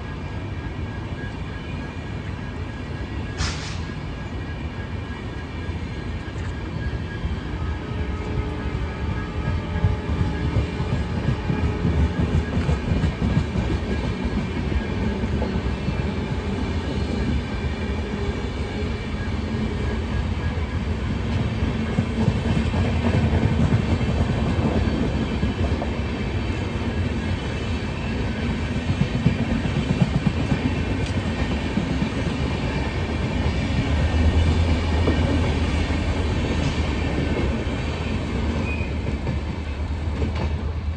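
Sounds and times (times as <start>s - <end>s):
diesel locomotive engine humming: 0.0s - 40.9s.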